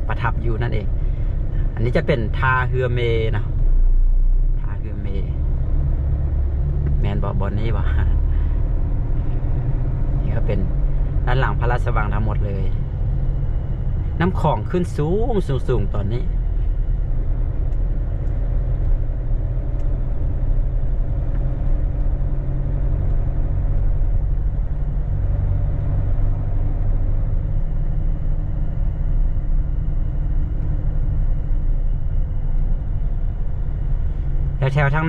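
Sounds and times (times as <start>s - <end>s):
car road noise rumble: 0.0s - 35.0s
faint engine hum: 0.0s - 35.0s.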